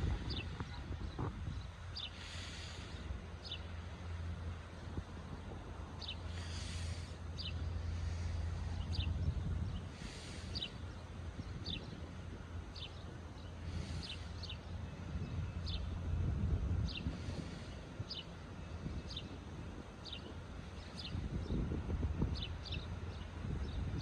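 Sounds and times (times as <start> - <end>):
low steady rumble: 0.0 - 24.0.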